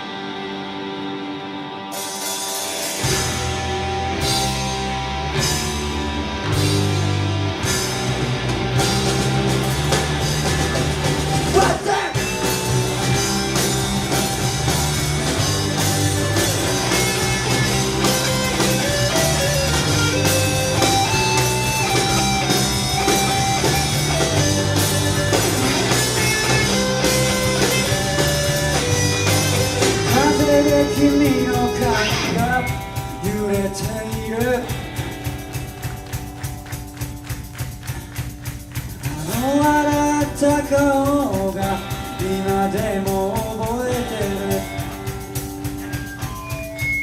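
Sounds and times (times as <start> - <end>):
bass guitar: 0.0 - 47.0
electric guitar: 0.0 - 47.0
drum kit steady beat: 2.0 - 47.0.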